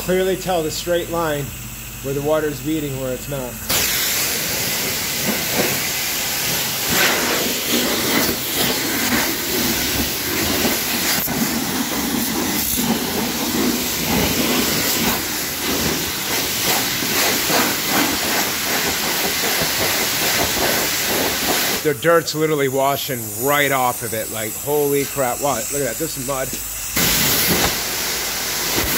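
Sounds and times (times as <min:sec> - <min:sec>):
hose water spraying on a car: 0:03.7 - 0:28.9.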